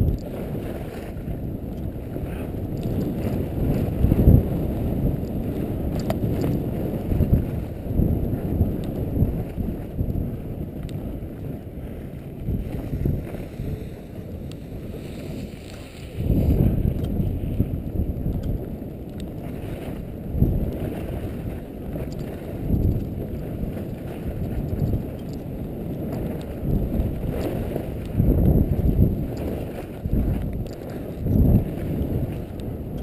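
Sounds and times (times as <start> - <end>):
wind rushing over microphone: 0.0 - 33.0
skis sliding on packed snow: 0.2 - 10.0, 11.0 - 18.0, 18.9 - 32.9.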